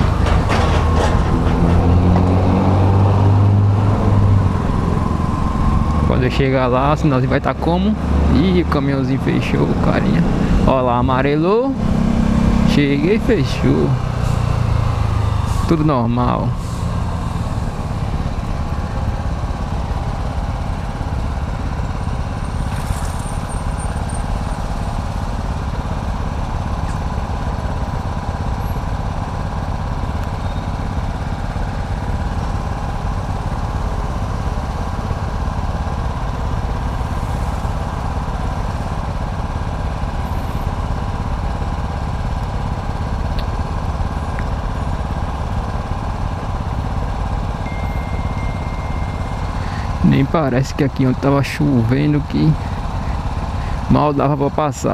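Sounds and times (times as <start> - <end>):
vehicle engine idling: 0.0 - 11.8, 12.4 - 54.9.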